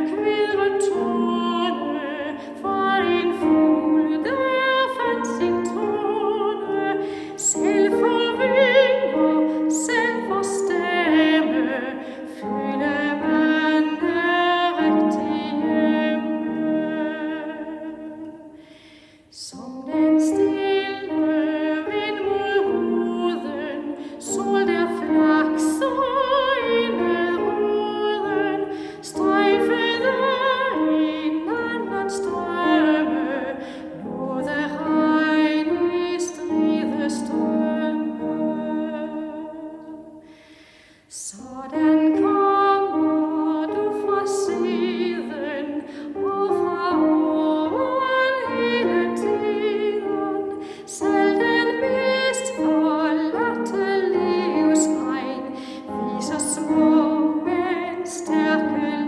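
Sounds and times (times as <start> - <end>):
soprano singing with vibrato: 0.0 - 18.7, 19.3 - 40.5, 41.1 - 59.0.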